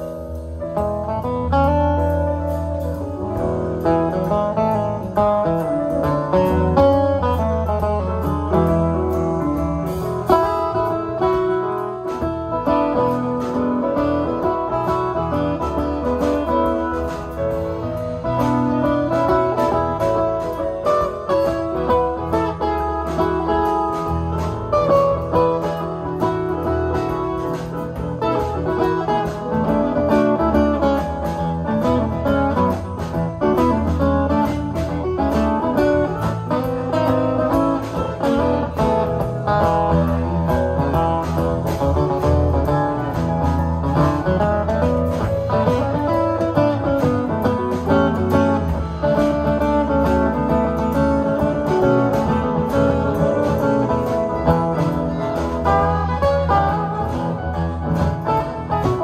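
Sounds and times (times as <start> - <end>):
live band instrumental: 0.0 - 59.0.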